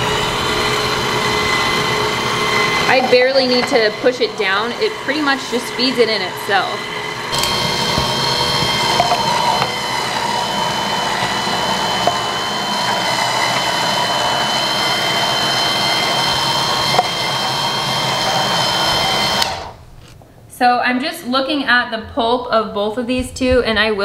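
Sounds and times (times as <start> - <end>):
juicer motor hum and whine: 0.0 - 19.8.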